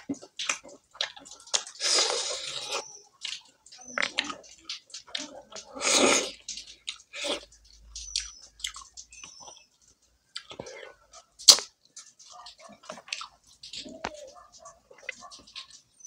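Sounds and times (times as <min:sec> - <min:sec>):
wet chewing and lip smacking: 0:00.0 - 0:16.0.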